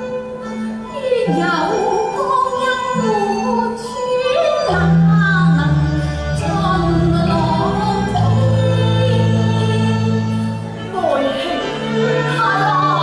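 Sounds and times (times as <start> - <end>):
woman singing opera: 0.0 - 13.0.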